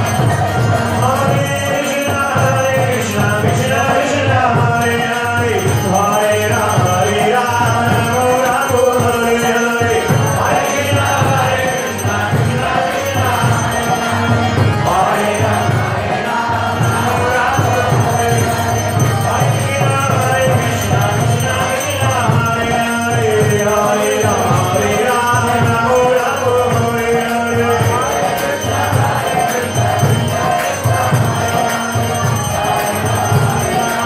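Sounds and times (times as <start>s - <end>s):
group chanting to music: 0.0s - 34.0s.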